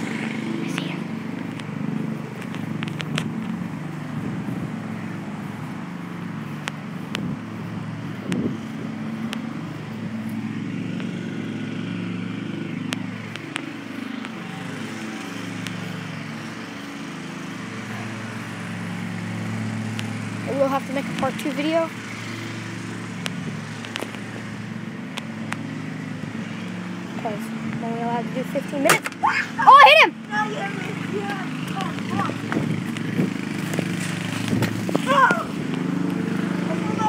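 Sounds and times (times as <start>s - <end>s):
motor engine running: 0.0s - 37.0s.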